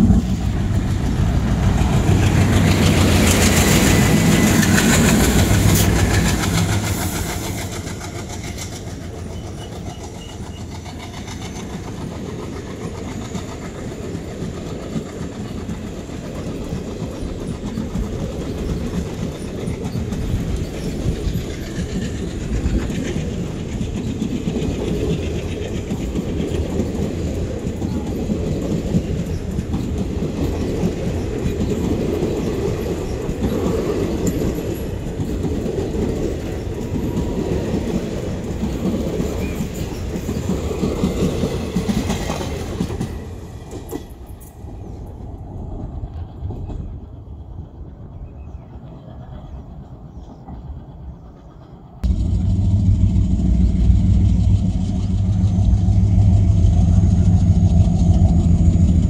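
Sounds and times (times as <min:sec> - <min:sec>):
faint train rumble: 0:00.0 - 0:59.0
train wheels clattering: 0:00.0 - 0:59.0.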